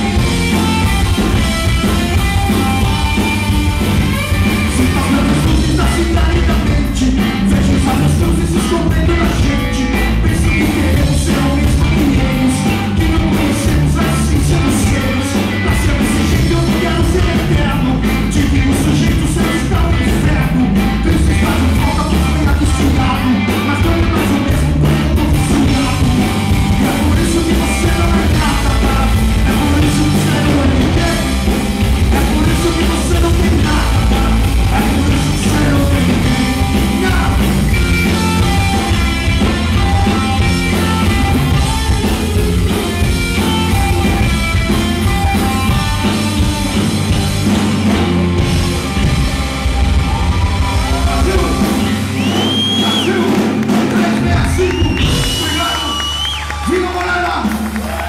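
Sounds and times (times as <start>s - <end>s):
electric guitar: 0.0s - 56.7s
bass guitar: 0.0s - 58.0s
drum kit: 0.0s - 58.0s
man singing: 4.3s - 45.8s, 50.8s - 57.4s.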